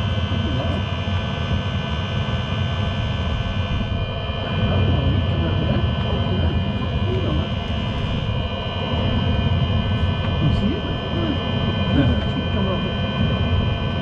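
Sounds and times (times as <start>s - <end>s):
air heater roaring: 0.0s - 14.0s
high whine: 0.0s - 14.0s.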